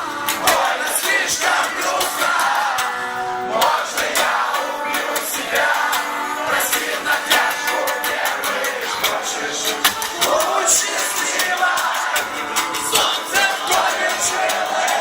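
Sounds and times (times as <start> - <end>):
crowd noise: 0.0 - 15.0
live band music: 0.0 - 15.0
person singing: 0.0 - 15.0.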